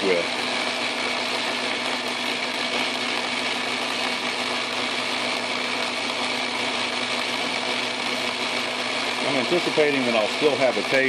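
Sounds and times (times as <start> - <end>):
metal lathe cutting steel: 0.0 - 11.0.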